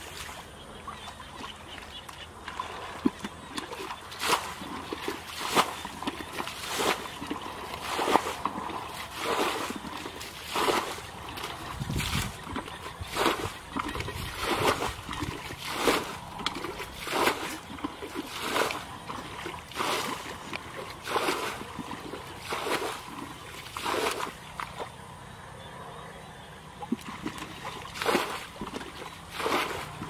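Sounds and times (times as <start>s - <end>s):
footsteps wading through muddy water: 0.0s - 25.3s, 26.8s - 30.0s.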